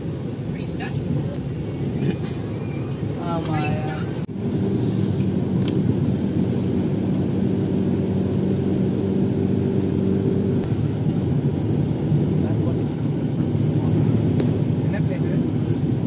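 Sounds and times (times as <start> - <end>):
vehicle engine and road drone: 0.0 - 16.0.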